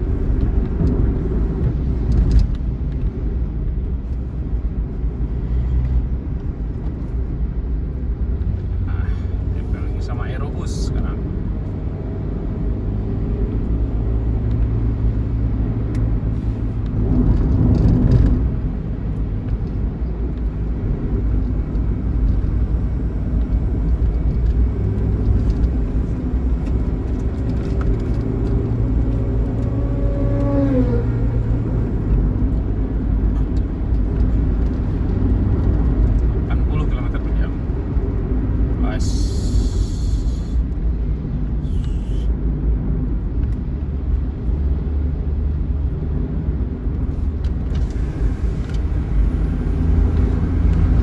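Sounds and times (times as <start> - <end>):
bus engine and road noise: 0.0 - 51.0.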